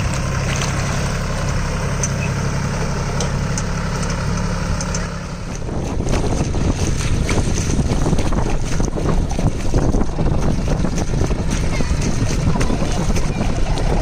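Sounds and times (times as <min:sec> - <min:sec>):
tractor diesel engine running: 0:00.0 - 0:14.0
water splashing around wheels: 0:00.0 - 0:14.0.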